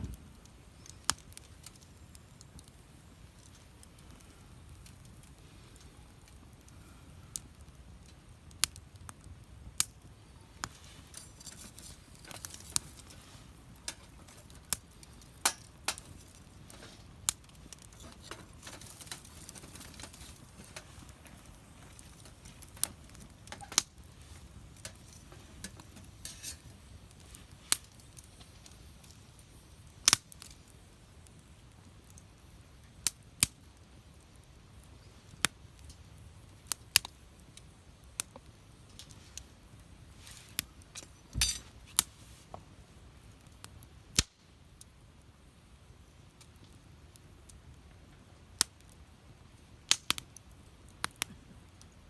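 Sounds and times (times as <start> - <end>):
campfire crackling: 0.0 - 52.0
fire pops: 0.0 - 52.0
low steady hiss: 0.0 - 52.0.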